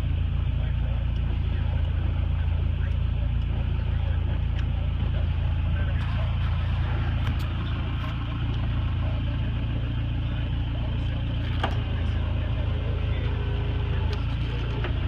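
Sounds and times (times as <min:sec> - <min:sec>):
engine running with low rumble: 0:00.0 - 0:15.0.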